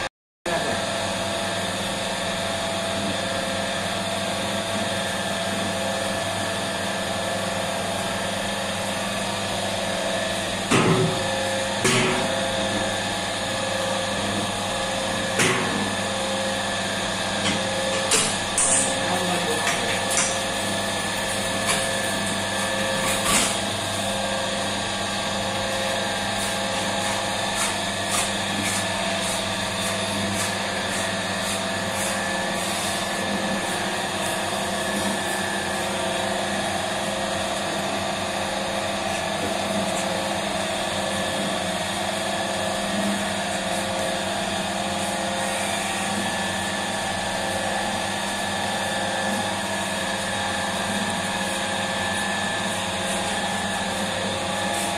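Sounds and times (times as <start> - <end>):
dough mixer motor whining: 0.0 - 54.9.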